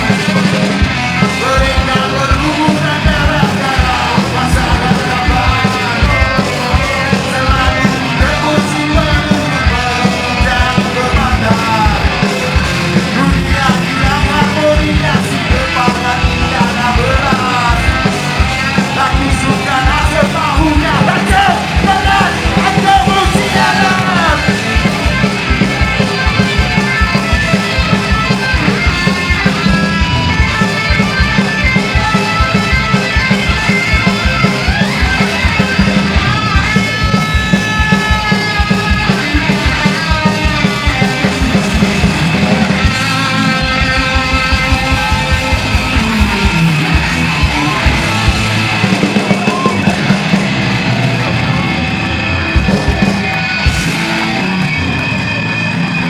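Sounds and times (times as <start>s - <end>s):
bass guitar: 0.0s - 56.0s
distorted electric guitars: 0.0s - 56.0s
fast drums: 0.0s - 56.0s
shouted vocals: 0.0s - 56.0s.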